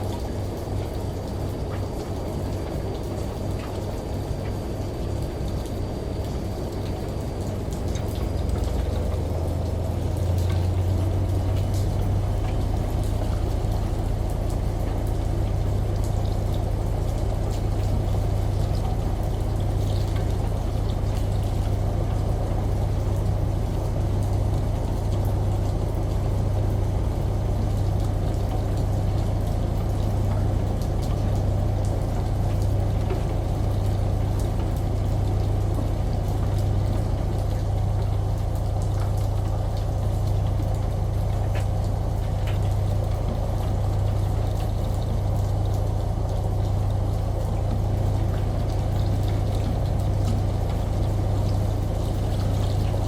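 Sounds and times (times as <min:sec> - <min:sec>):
running and pouring water: 0:00.0 - 0:53.0
washing machine motor hum: 0:00.0 - 0:53.0.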